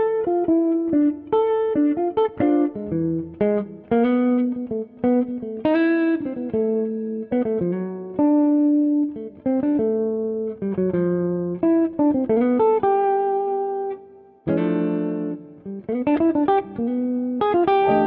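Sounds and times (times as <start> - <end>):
guitar plucking melody: 0.0 - 18.0.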